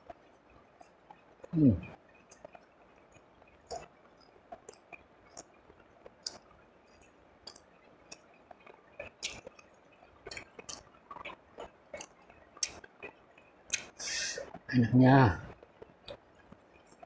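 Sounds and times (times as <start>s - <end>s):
person chewing food: 0.0s - 14.7s, 15.5s - 17.0s.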